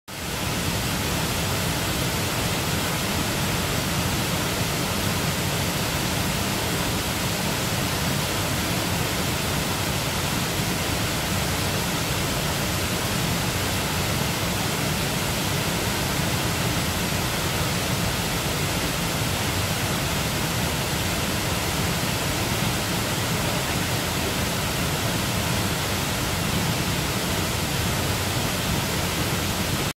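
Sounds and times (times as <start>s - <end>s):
waterfall rushing: 0.1s - 29.9s.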